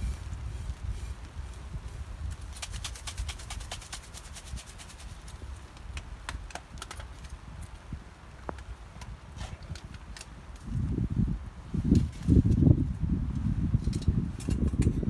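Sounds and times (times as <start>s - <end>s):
campfire crackling: 0.0s - 13.4s.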